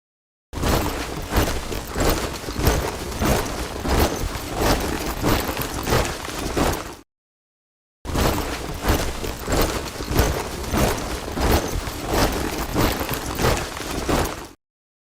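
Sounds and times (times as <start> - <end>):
troops marching in step: 0.6 - 7.0, 8.2 - 14.6.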